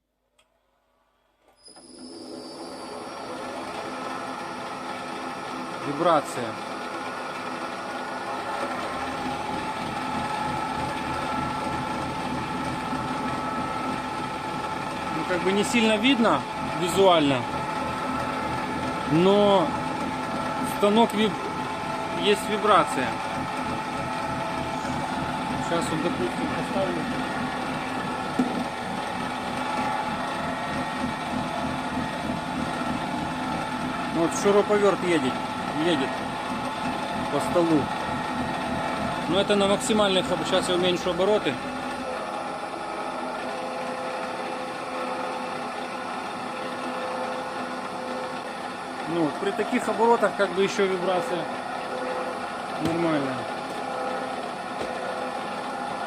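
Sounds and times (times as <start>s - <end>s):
drill press whirring: 1.4s - 56.0s.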